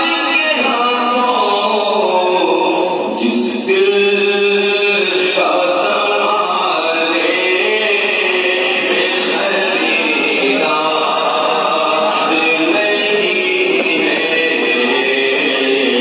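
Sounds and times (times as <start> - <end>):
man singing unaccompanied: 0.0 - 16.0.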